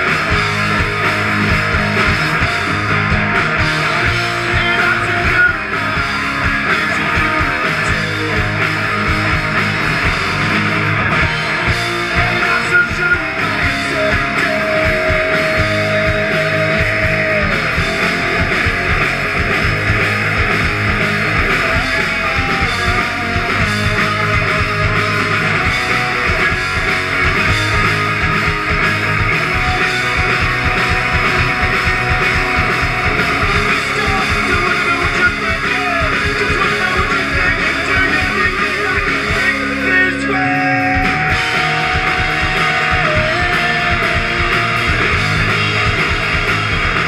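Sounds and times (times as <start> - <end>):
punk rock band playing live: 0.0 - 47.0.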